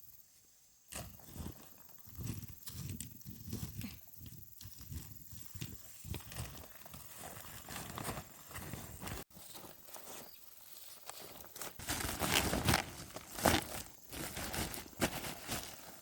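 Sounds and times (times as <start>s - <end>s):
dry corn plants rustling: 0.4s - 16.0s.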